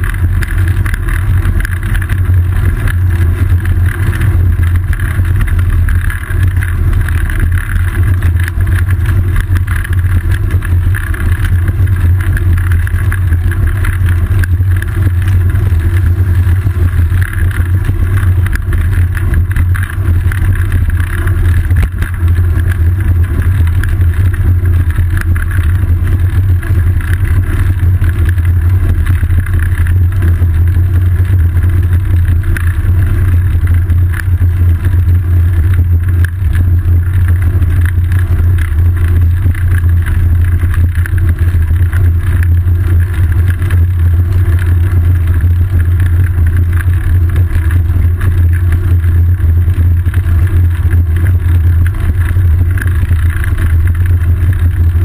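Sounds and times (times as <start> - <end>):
deep rumble of wind and road: 0.0 - 55.0
small knocks and rattles: 0.0 - 55.0.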